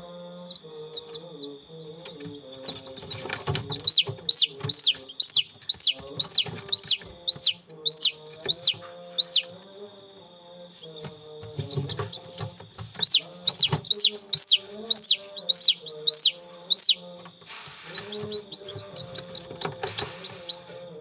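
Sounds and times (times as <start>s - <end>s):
chick peeping: 0.0s - 9.7s, 10.8s - 20.9s.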